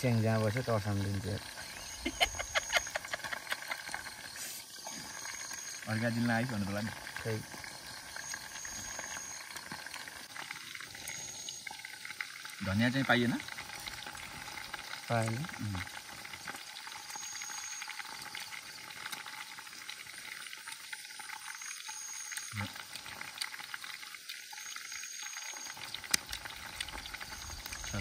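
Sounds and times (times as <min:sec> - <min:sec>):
campfire fizzing crackle: 0:00.0 - 0:28.0.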